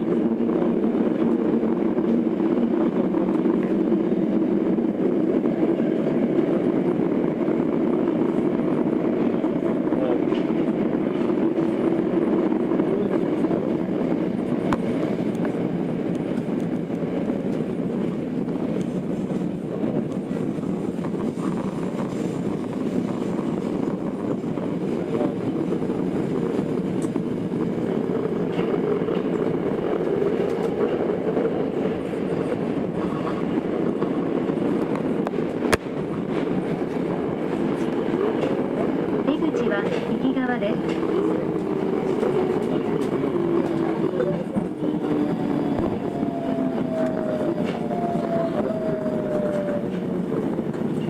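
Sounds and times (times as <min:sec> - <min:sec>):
subway wheels rumbling on rail: 0:00.0 - 0:51.0.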